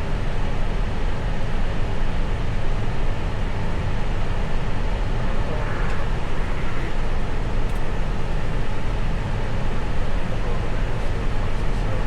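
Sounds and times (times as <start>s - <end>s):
cockpit airflow and engine rush: 0.0s - 12.0s.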